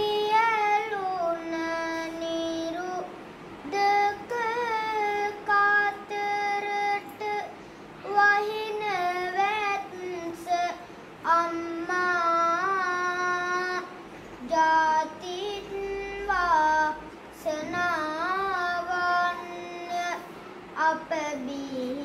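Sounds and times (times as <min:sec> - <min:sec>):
boy chanting verse: 0:03.7 - 0:22.0.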